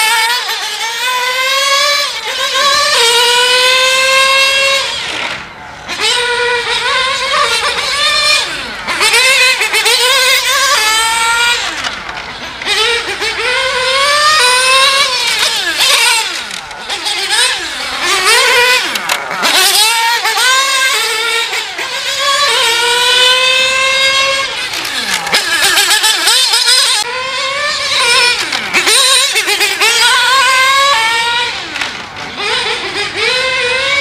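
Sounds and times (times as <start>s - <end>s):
rc car nitro engine revving: 0.0s - 34.0s.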